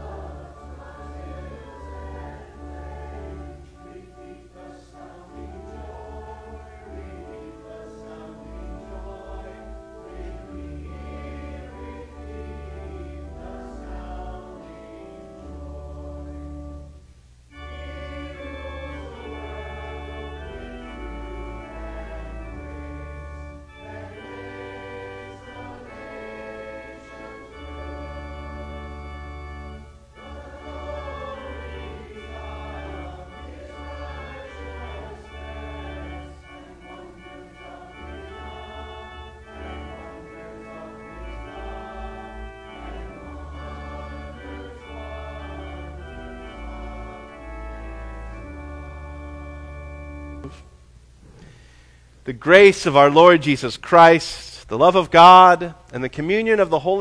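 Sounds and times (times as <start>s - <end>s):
congregation singing a hymn: 0.0s - 50.7s, 52.4s - 57.0s
church organ: 0.0s - 57.0s.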